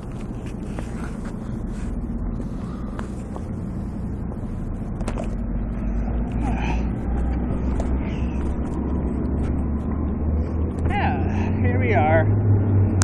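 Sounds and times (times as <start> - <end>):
traffic rumble: 0.0 - 13.0
vehicle driving by: 0.0 - 13.0.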